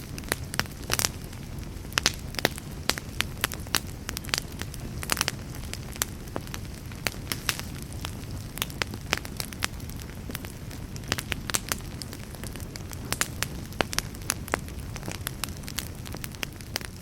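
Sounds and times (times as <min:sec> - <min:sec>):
fire rumbling and crackling: 0:00.0 - 0:17.0.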